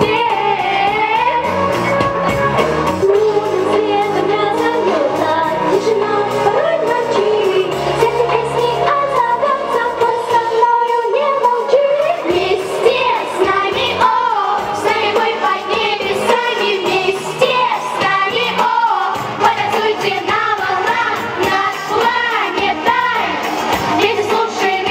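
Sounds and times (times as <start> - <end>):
girls singing into microphones: 0.0 - 2.2, 3.0 - 24.9
music backing track: 0.0 - 24.9.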